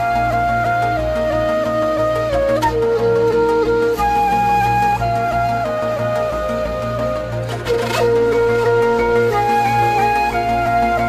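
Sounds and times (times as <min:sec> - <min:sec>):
slow flute melody: 0:00.0 - 0:11.0.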